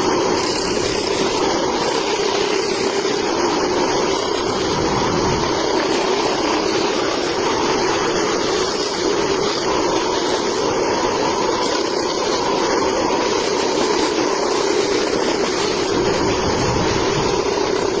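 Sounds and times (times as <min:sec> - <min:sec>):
band saw running: 0:00.0 - 0:18.0.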